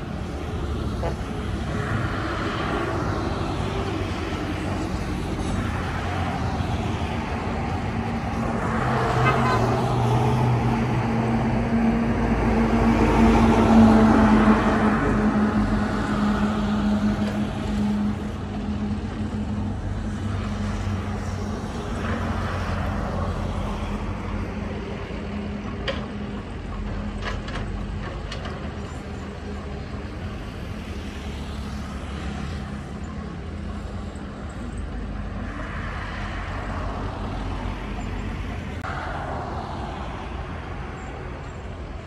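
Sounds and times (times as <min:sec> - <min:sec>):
diesel engines droning: 0:00.0 - 0:42.0.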